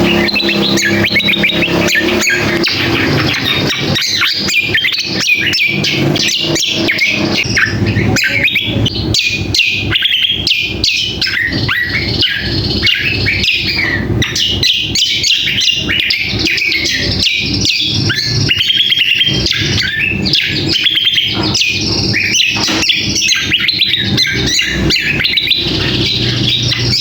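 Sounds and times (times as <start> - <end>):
bird singing rapid chirps and whistles: 0.0 - 27.0.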